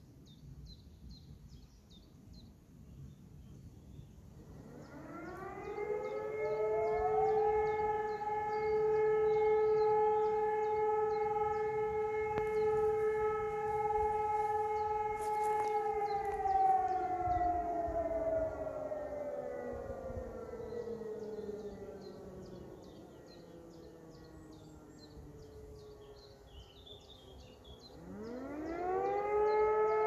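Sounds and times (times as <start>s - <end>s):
faint birdsong chirps: 0.0s - 30.0s
warning sirens wailing: 4.1s - 30.0s.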